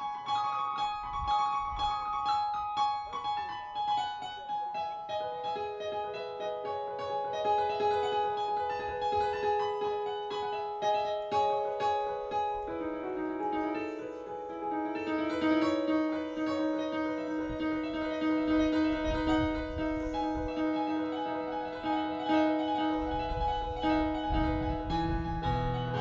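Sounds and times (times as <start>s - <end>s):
keyboard playing piano sound: 0.0s - 26.0s.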